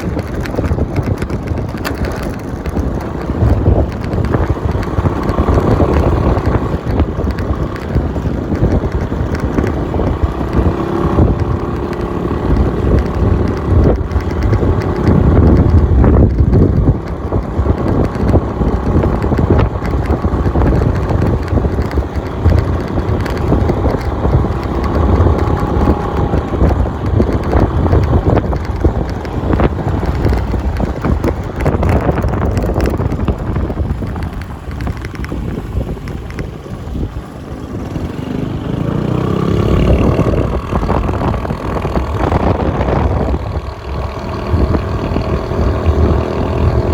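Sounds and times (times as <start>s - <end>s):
vehicle engine running: 0.0s - 46.9s
wind buffeting microphone: 0.0s - 46.9s.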